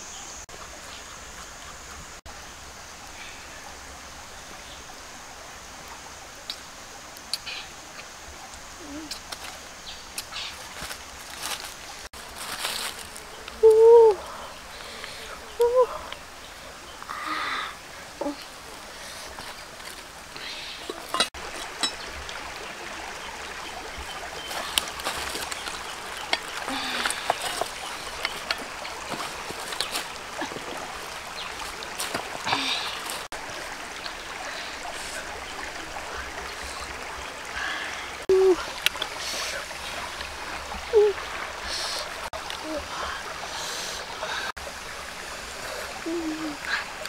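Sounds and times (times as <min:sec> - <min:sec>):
flowing water rushing: 0:00.0 - 0:47.0.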